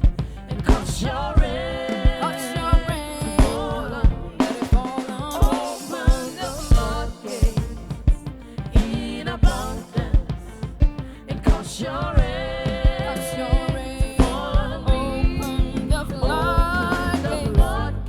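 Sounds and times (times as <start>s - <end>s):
gospel band playing: 0.0s - 18.0s
steady drum beat: 0.0s - 18.0s.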